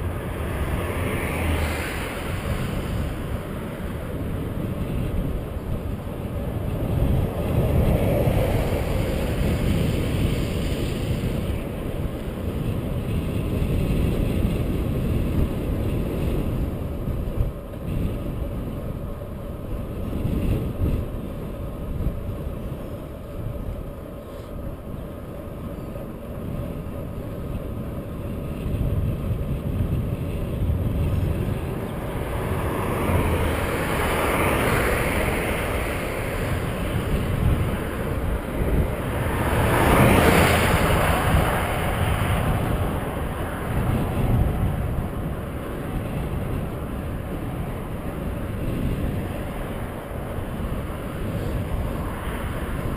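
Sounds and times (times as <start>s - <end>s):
car tyre noise: 0.0s - 52.9s
road noise: 0.0s - 52.9s
wind buffeting microphone: 0.0s - 52.9s.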